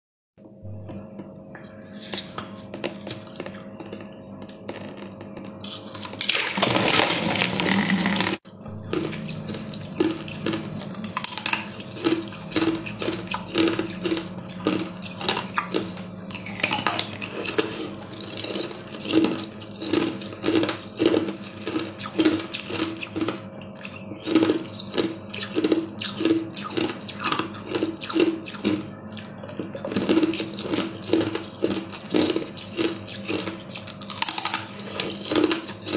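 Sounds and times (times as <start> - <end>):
rhythmic chewing: 0.8 - 35.9.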